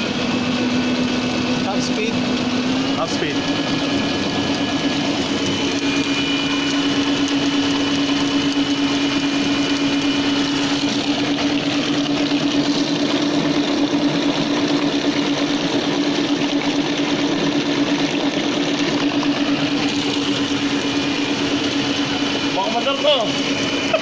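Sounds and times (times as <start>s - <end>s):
electric motor humming: 0.0s - 24.0s
high whine: 0.0s - 24.0s.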